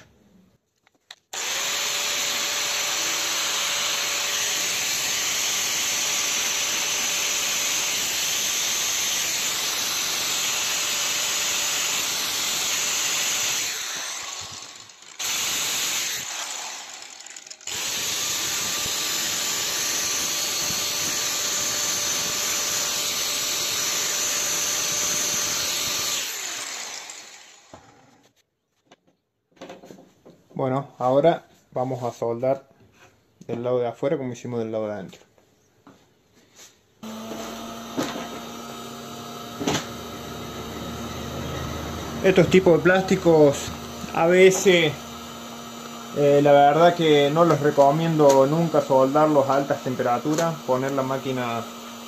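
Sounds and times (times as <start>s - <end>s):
angle grinder grinding plastic: 0.8s - 28.4s, 37.0s - 52.0s.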